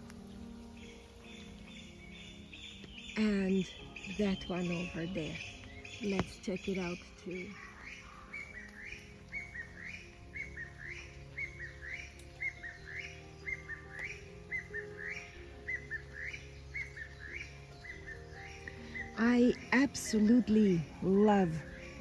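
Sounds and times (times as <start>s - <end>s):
bird chirping: 0.0s - 22.0s
soft background music: 0.0s - 22.0s.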